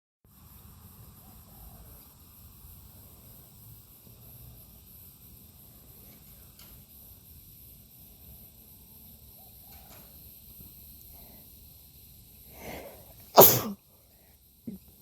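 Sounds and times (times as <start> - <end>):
insect chirring: 0.4 - 15.0.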